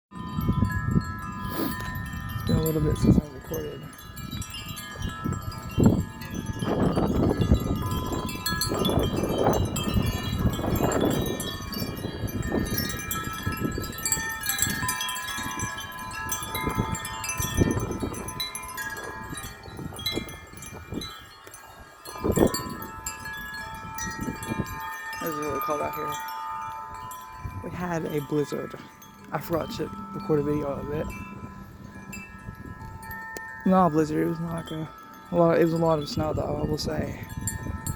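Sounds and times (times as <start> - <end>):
metal wind chimes ringing: 0.1 - 37.9
wind gusts on microphone: 0.1 - 37.9.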